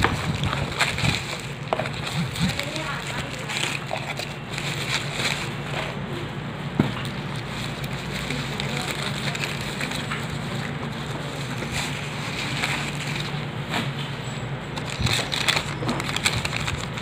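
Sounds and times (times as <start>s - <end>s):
packaging crinkling: 0.0s - 6.0s, 7.0s - 14.0s, 14.7s - 17.0s
steady low hum: 0.0s - 17.0s.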